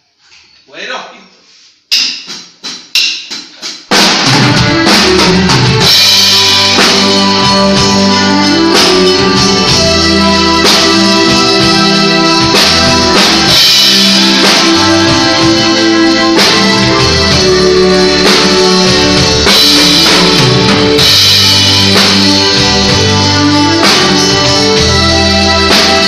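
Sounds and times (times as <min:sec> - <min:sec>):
instrumental rock band playing: 0:02.2 - 0:26.0.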